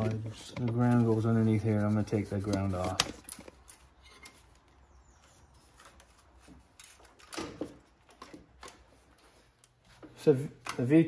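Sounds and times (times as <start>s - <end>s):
clicks and rustling of hands: 0.0s - 11.0s.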